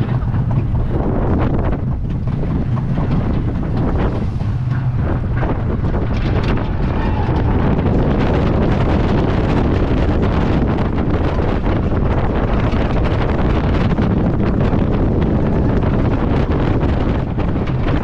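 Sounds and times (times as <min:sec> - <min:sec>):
roller coaster rumbling on track: 0:00.0 - 0:18.0
wind on microphone: 0:00.0 - 0:18.0.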